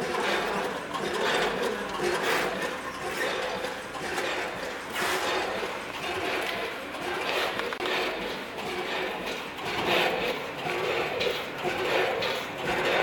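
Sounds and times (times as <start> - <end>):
packing machine clatter: 0.0 - 13.0.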